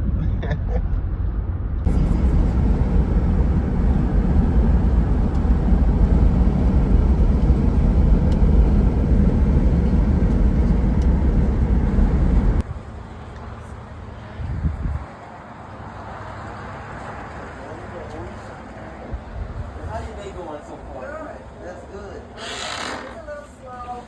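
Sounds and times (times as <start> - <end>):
car road and wind noise: 0.0 - 20.2.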